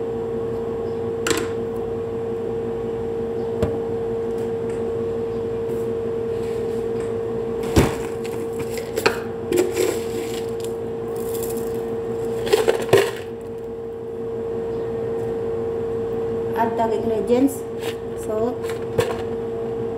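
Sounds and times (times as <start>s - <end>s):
steady hum: 0.0s - 19.9s.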